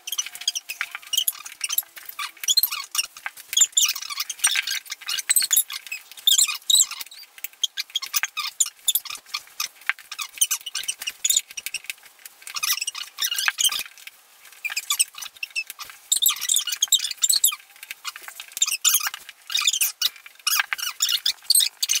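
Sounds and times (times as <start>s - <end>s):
high-pitched squeaky chatter: 0.0s - 11.8s, 14.6s - 22.0s.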